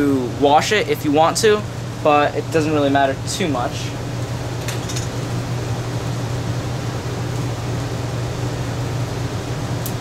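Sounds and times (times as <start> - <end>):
fan humming and hissing: 0.0 - 10.0.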